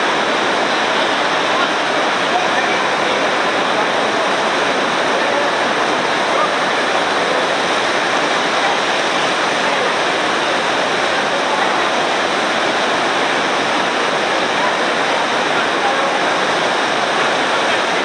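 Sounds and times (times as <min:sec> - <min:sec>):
water rushing down a cascade: 0:00.0 - 0:18.0.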